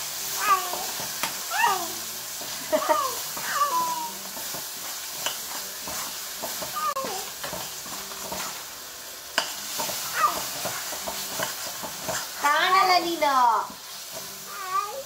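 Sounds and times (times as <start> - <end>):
frying sizzle: 0.0 - 15.0
spatula scraping frying pan: 0.7 - 8.7, 9.3 - 14.5.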